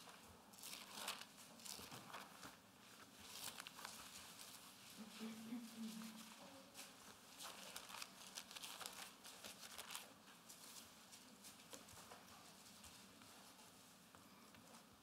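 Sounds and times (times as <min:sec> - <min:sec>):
thin pages rustling: 0:00.0 - 0:04.9, 0:06.1 - 0:13.8.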